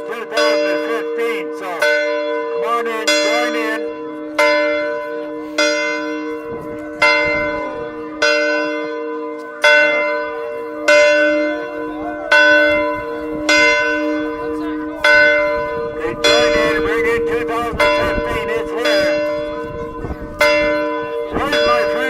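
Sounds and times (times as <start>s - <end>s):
large bell ringing: 0.0s - 22.0s.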